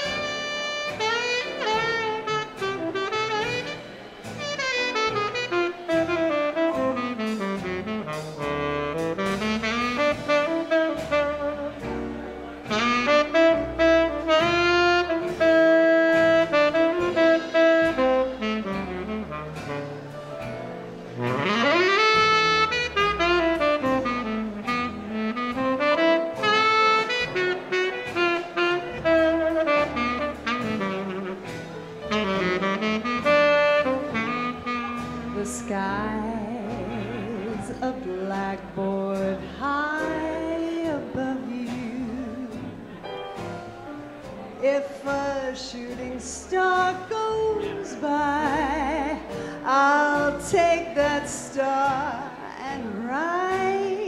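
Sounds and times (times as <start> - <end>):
saxophone melody: 0.0 - 44.7, 46.4 - 54.0
swing dance band playing: 0.0 - 54.0.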